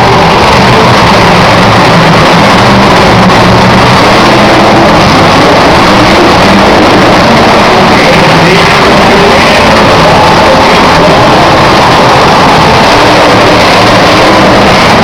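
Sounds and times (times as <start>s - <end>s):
truck engine running hard: 0.0s - 15.0s.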